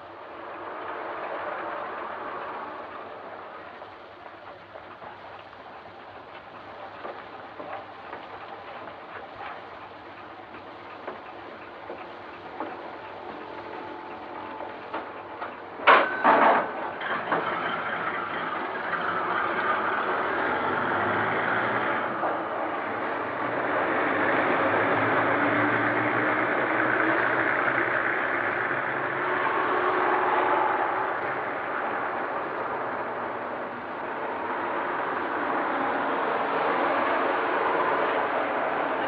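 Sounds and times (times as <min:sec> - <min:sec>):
bus engine pulling away: 0:00.0 - 0:39.0.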